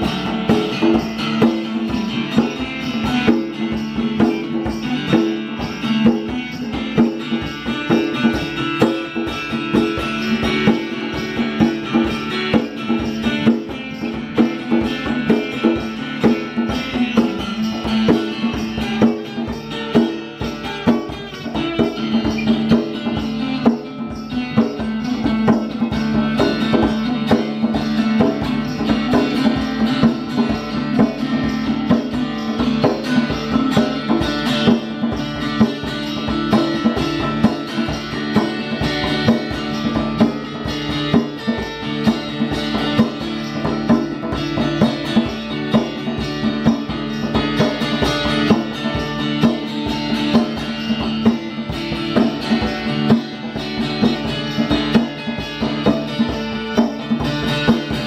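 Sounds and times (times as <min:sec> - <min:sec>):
acoustic guitar: 0:00.0 - 0:58.0
djembe rhythm: 0:00.0 - 0:58.0.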